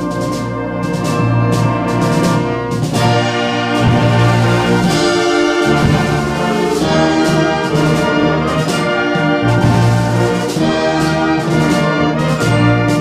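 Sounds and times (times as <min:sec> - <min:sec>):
percussion strokes: 0:00.0 - 0:13.0
wind band sustained brass chords: 0:00.0 - 0:13.0.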